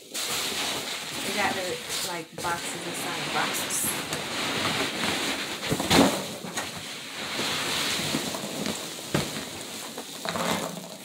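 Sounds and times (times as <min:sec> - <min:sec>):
packing peanuts and cardboard rustling: 0:00.0 - 0:11.0.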